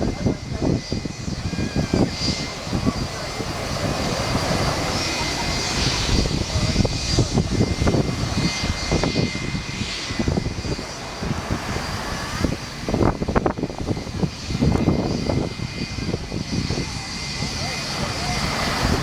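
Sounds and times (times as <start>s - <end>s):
heavy low rumble: 0.0s - 19.0s
jet engine turbine whine: 0.0s - 19.0s.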